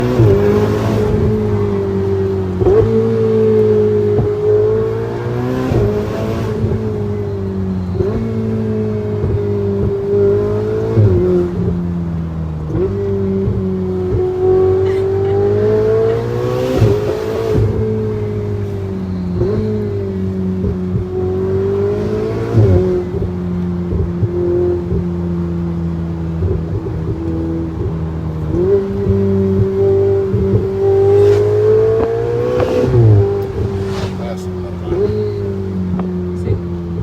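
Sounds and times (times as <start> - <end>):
car engine driving: 0.0 - 37.0.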